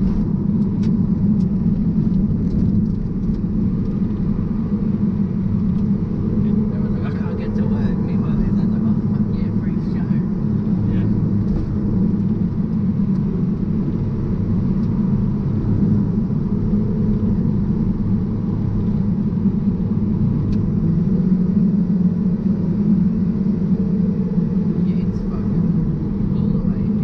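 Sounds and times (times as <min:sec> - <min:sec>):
car engine running under load: 0:00.0 - 0:27.0
tyre and road noise: 0:00.0 - 0:27.0.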